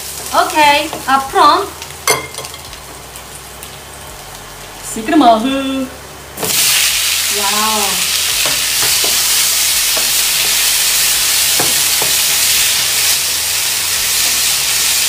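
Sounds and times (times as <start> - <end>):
tomatoes sizzling in oil: 0.0 - 15.0.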